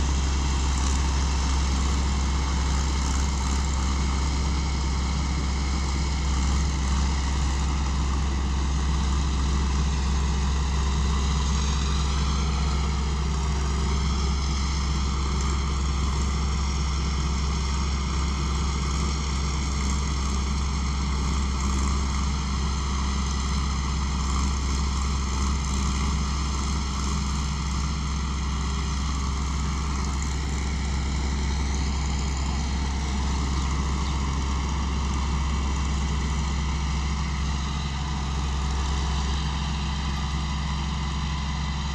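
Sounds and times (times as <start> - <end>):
deep engine drone: 0.0 - 41.9
threshing machinery whine: 0.0 - 41.9.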